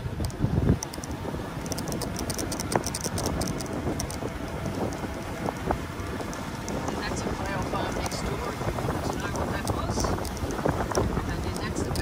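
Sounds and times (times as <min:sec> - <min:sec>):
light rattling clicks: 0:00.0 - 0:12.0
vehicle rumble: 0:00.0 - 0:12.0
wind noise on microphone: 0:00.0 - 0:12.0.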